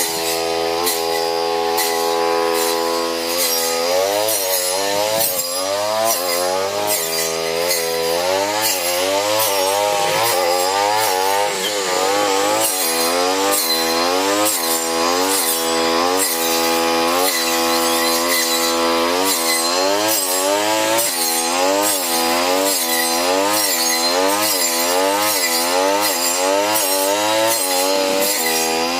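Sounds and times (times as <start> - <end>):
brush cutter engine under load: 0.0 - 28.9
rasping cutting noise: 0.0 - 28.9.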